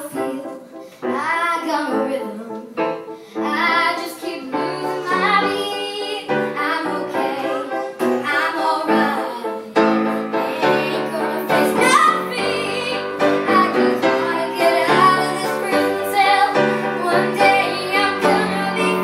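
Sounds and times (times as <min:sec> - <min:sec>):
girl singing into a microphone: 0:00.0 - 0:02.8, 0:03.4 - 0:19.0
piano accompaniment: 0:00.0 - 0:19.0.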